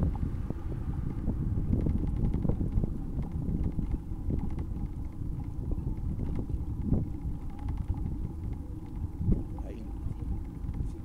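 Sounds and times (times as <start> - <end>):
wind buffeting microphone: 0.0 - 11.0
light clicks and rattles: 1.1 - 11.0.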